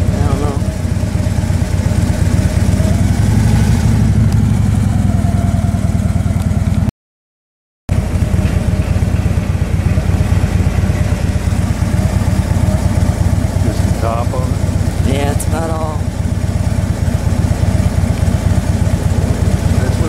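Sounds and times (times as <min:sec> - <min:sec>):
vehicle engine rumbling: 0:00.0 - 0:06.9, 0:07.9 - 0:20.0.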